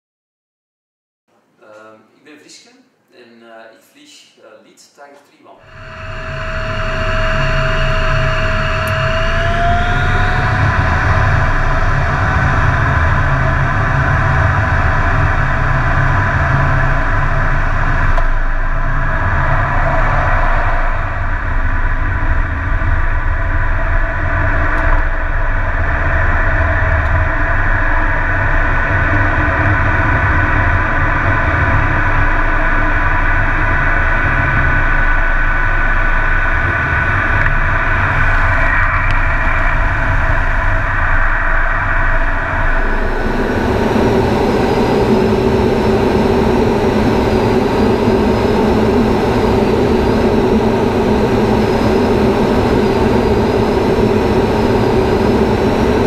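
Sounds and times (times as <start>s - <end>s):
jet engine rumble with turbine whine: 5.6s - 56.0s.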